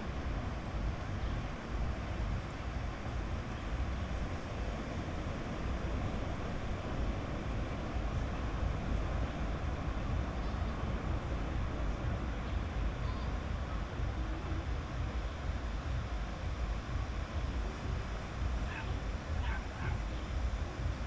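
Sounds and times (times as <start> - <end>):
sea waves on a beach: 0.0 - 21.0.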